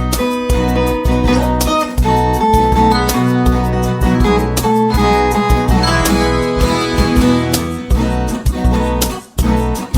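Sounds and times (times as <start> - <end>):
plucked folk guitar: 0.0 - 9.9.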